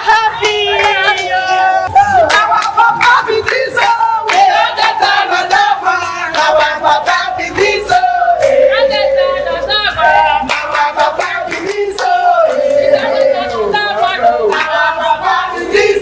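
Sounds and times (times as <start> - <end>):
crowd singing and chanting: 0.0 - 16.0.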